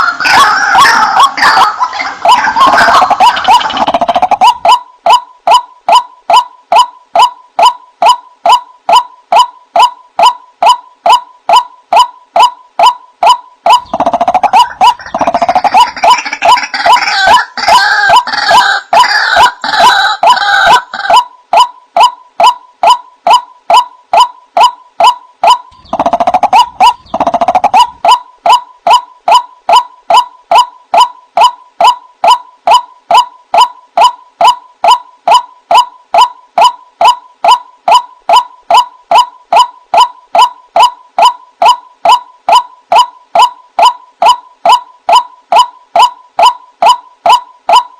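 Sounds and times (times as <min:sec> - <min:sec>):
harsh bird calling: 0:00.0 - 0:47.9.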